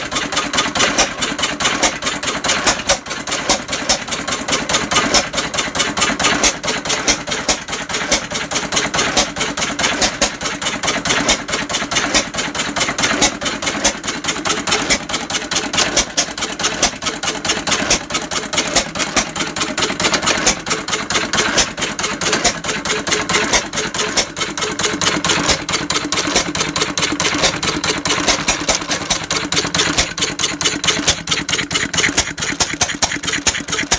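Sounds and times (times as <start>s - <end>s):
stationary engine clattering: 0.0s - 33.9s.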